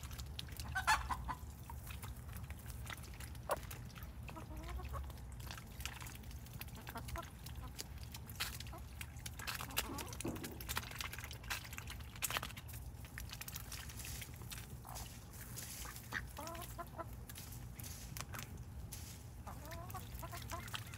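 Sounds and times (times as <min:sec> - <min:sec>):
bills pecking and tearing leaves: 0:00.0 - 0:20.9.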